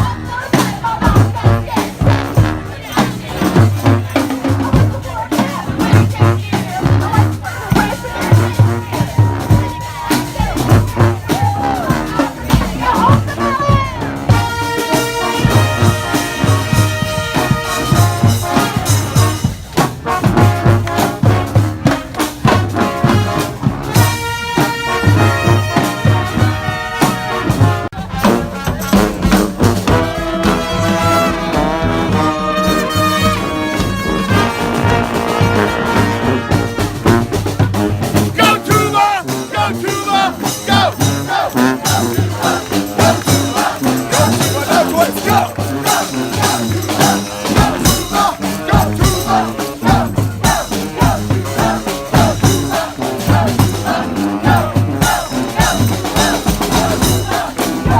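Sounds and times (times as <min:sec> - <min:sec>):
brass band playing: 0:00.0 - 0:57.9
percussion beat: 0:00.0 - 0:57.9.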